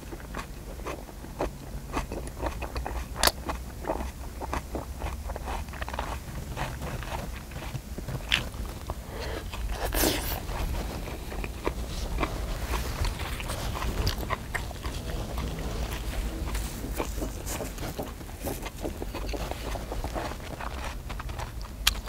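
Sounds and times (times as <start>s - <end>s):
close chewing with mouth smacks: 0.0s - 22.0s
steady low rumble: 0.0s - 22.0s.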